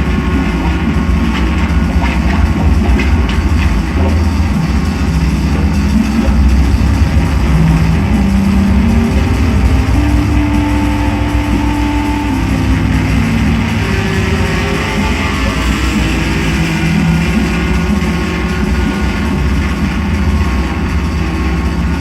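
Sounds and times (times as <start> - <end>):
psychedelic drone-noise music: 0.0 - 22.0.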